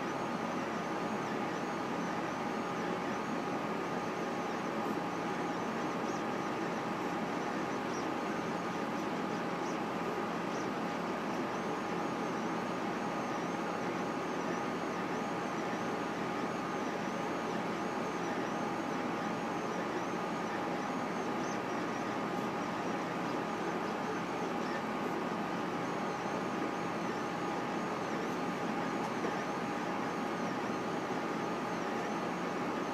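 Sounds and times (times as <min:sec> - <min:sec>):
steady mechanical hum: 0:00.0 - 0:32.9.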